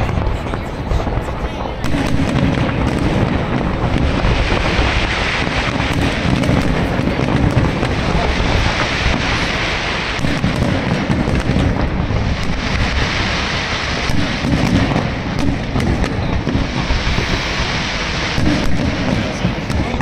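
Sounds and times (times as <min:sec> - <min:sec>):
continuous rumble: 0:00.0 - 0:20.0
fireworks bursting: 0:00.0 - 0:20.0.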